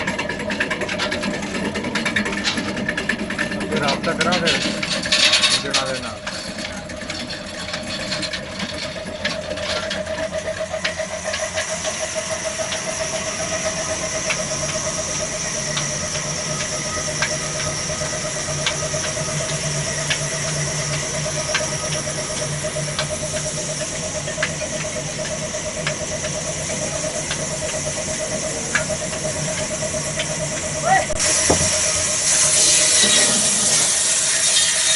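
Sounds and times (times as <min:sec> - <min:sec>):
diesel engine running: 0:00.0 - 0:34.9
saw pulsing whine: 0:00.0 - 0:34.9.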